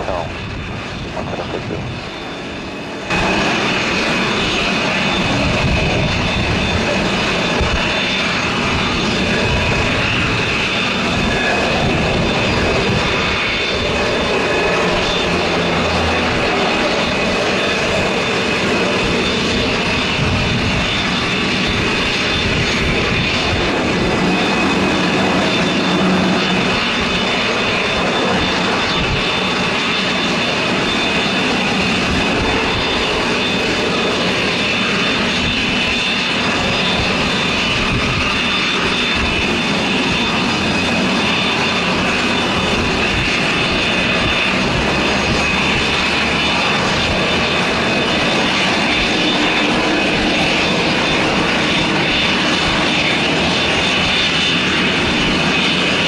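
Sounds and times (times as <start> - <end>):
turboprop aircraft taxiing: 0.0 - 56.0.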